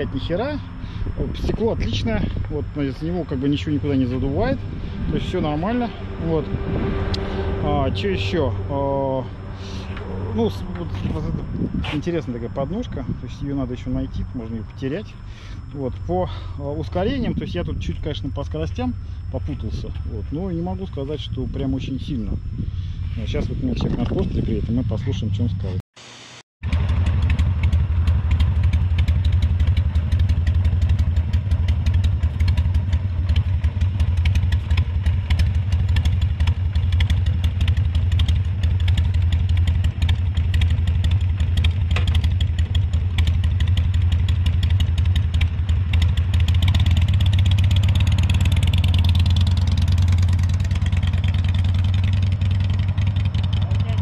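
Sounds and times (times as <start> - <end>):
motorcycle engine idling: 0.0 - 25.5, 26.6 - 54.0.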